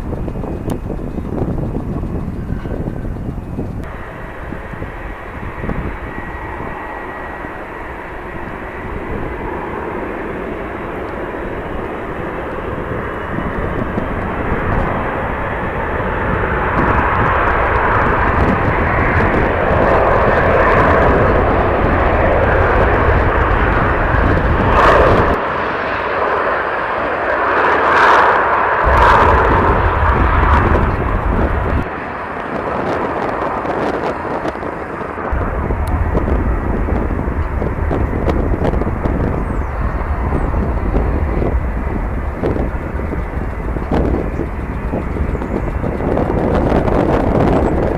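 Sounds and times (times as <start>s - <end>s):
jet airliner passing: 0.0s - 47.9s
wind buffeting microphone: 0.0s - 47.9s.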